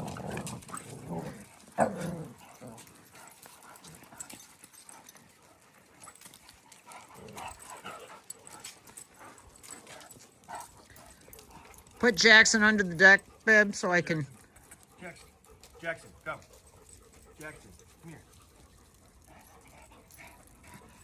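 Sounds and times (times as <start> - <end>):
faint dog sounds: 0.0 - 21.0.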